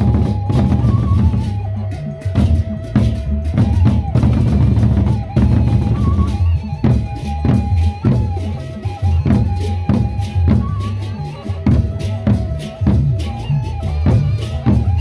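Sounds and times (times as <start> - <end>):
held melody line: 0.0 - 15.0.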